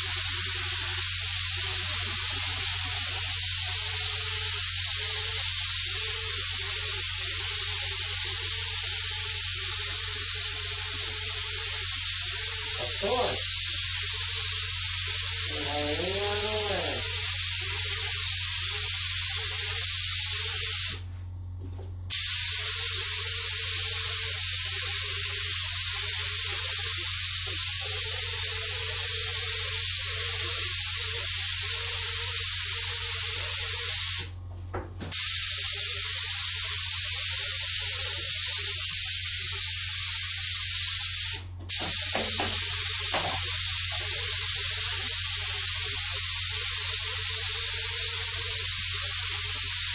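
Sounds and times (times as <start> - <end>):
spray paint hissing: 0.0 - 21.1, 22.1 - 34.4, 35.1 - 49.9.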